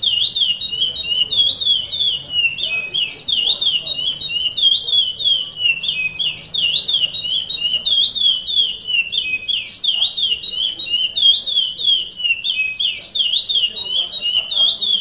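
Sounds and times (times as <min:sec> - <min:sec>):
finch singing high whistles: 0:00.0 - 0:15.0.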